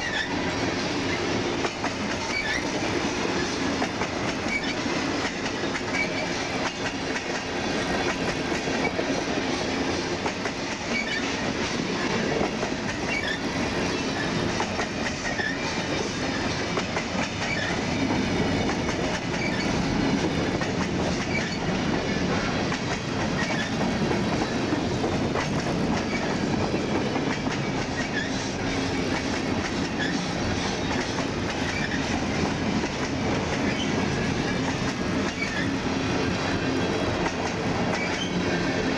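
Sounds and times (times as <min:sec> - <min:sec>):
freight train cars rolling past: 0:00.0 - 0:38.9
wheels clacking over rail joints: 0:00.0 - 0:38.9.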